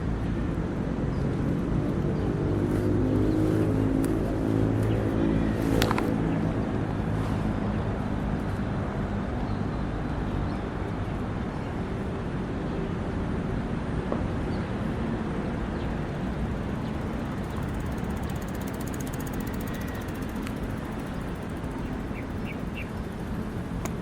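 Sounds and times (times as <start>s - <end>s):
engine humming steadily: 0.0s - 24.0s
outdoor noise: 0.0s - 24.0s.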